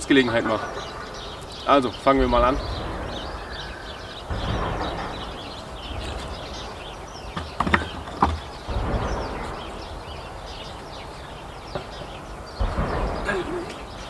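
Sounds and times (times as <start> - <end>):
low rumbling: 0.0 - 14.0
small birds chirping: 0.0 - 14.0
sharp knocks: 2.0 - 14.0.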